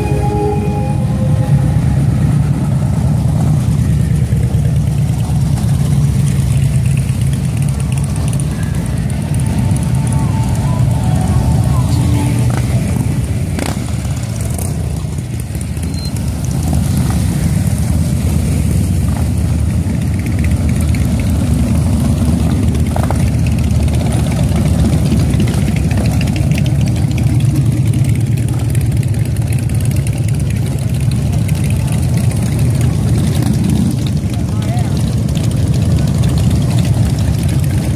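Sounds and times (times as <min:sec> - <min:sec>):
motorcycles riding past: 0:00.0 - 0:37.9.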